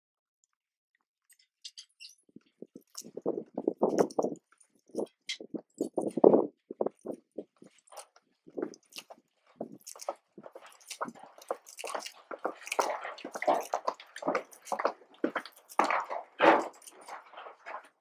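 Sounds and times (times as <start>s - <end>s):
footsteps on gritty stone: 2.7s - 18.0s.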